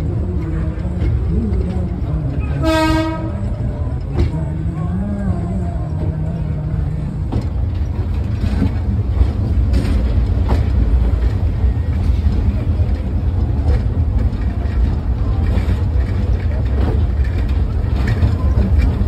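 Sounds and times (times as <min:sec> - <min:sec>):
train carriage rumbling on track: 0:00.0 - 0:19.0.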